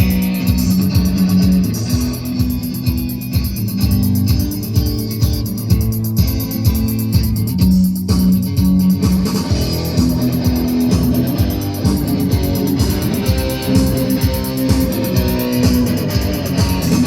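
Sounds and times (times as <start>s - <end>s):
bass guitar: 0.0s - 17.0s
electric guitar: 0.0s - 17.0s
steady drum beat: 0.0s - 17.0s.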